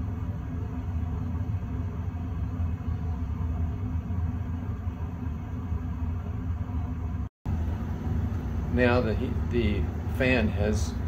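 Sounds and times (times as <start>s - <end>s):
gas furnace low rumble: 0.0s - 11.0s.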